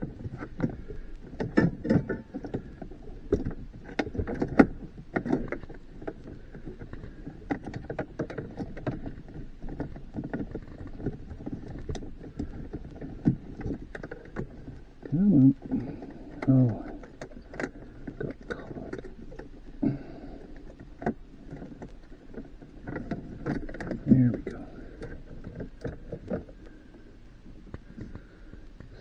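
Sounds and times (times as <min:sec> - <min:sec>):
plastic parts clicking and creaking: 0:00.0 - 0:29.0.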